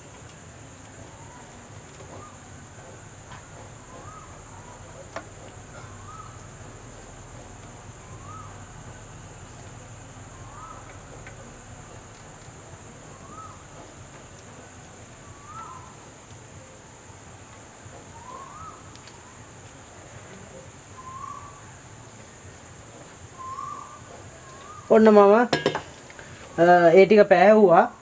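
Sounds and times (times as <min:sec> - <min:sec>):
bird calling: 0:00.7 - 0:17.0, 0:17.8 - 0:27.0.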